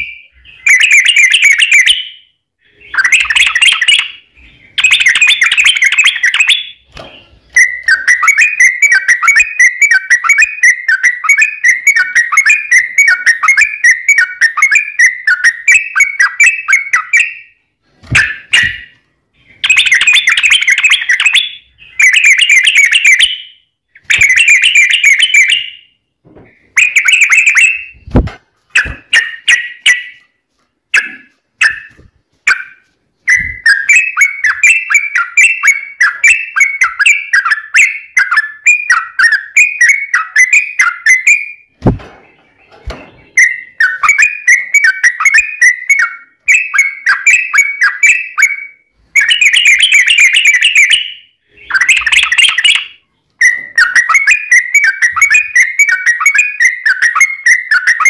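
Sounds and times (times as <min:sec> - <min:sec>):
bird singing chirpy notes: 0:00.0 - 0:30.3, 0:30.9 - 0:58.0.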